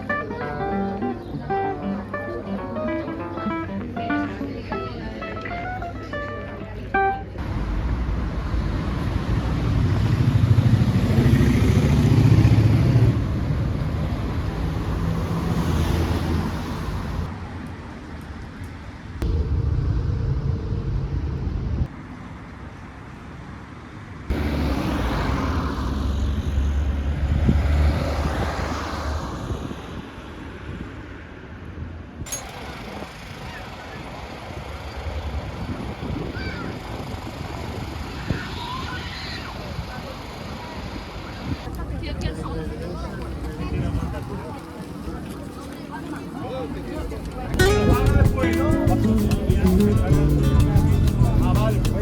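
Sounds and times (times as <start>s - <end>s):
vehicles passing: 0.0s - 52.0s.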